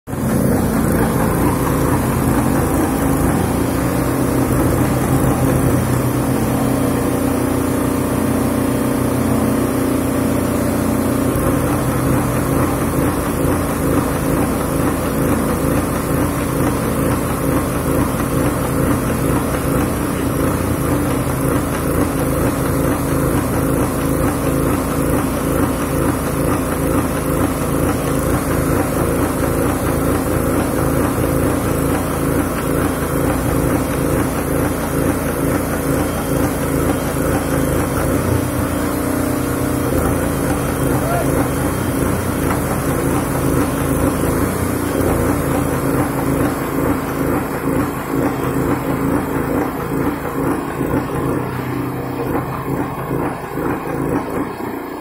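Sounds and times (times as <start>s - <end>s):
boom lift engine running: 0.0s - 55.0s.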